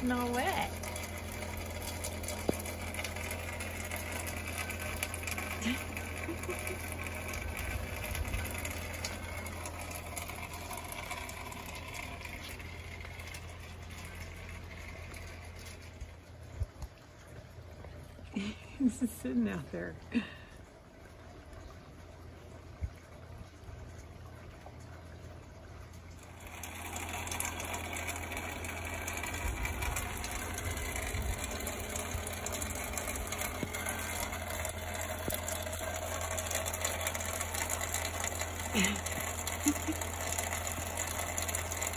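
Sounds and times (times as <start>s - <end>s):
light rain pattering and dripping: 0.0s - 41.9s
steady low hum: 0.0s - 41.9s.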